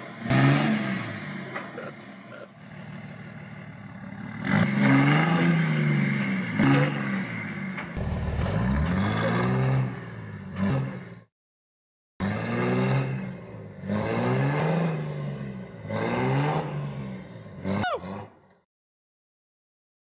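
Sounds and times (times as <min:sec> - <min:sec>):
diesel truck engine revving: 0:00.0 - 0:11.3, 0:12.2 - 0:18.6.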